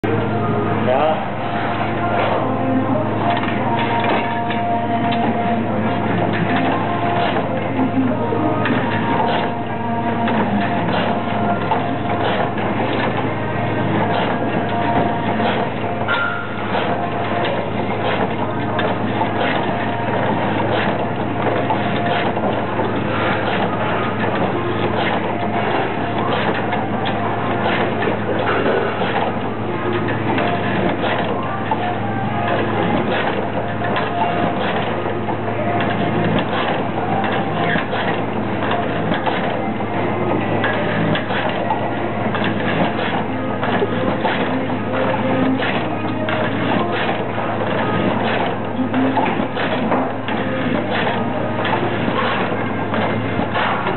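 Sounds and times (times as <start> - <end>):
low machine hum: 0.0 - 53.9.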